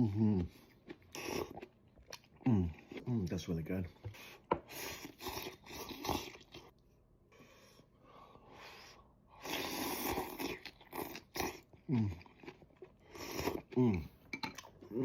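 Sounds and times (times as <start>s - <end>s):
person chewing noodles: 0.0s - 3.3s, 4.2s - 6.8s, 8.5s - 15.0s.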